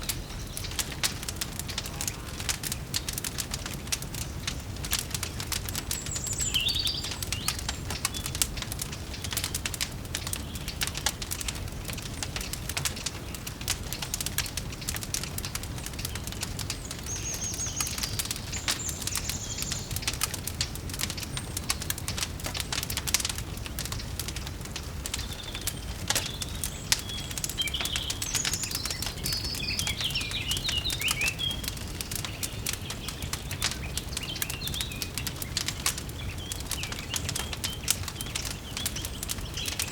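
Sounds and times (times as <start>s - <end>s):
small birds chirping: 0.0s - 39.9s
wood fire crackling: 0.0s - 39.9s.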